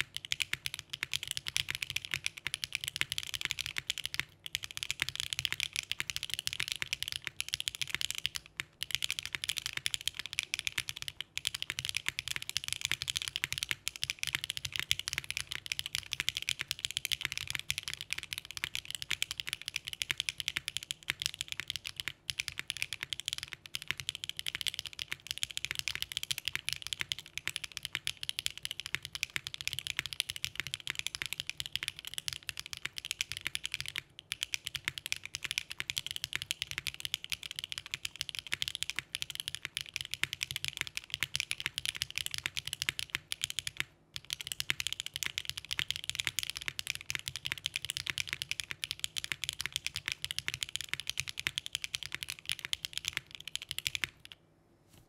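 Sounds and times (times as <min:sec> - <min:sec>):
mechanical keyboard typing: 0:00.0 - 0:54.4.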